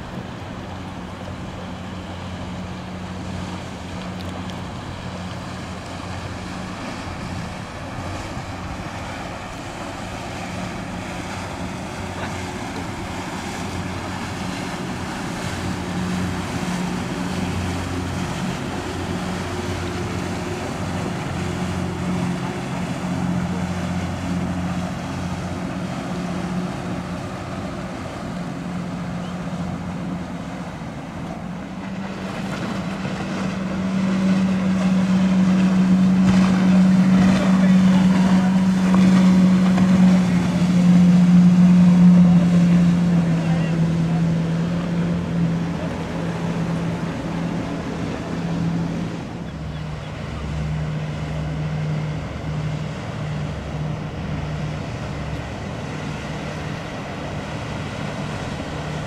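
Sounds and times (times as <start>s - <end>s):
motorboat engine droning: 0.0s - 59.0s
water noise: 0.0s - 59.0s
wind: 0.0s - 59.0s.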